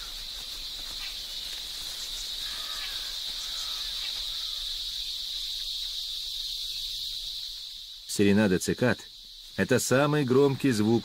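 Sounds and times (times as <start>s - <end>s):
cicadas chirring: 0.0s - 11.0s.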